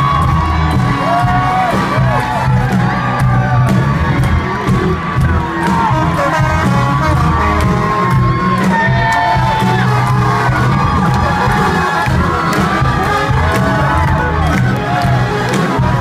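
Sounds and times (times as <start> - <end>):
crowd cheering and whooping: 0.0 - 16.0
live band music with heavy bass: 0.0 - 16.0.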